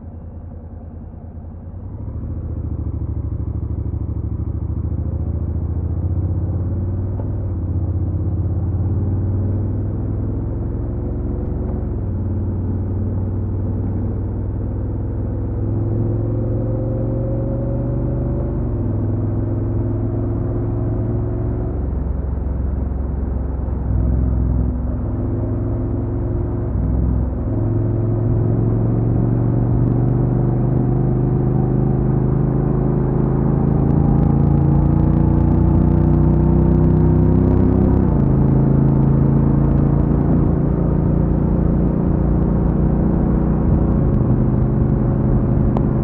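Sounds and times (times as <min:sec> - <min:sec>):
motorcycle engine accelerating: 0:01.9 - 0:46.0.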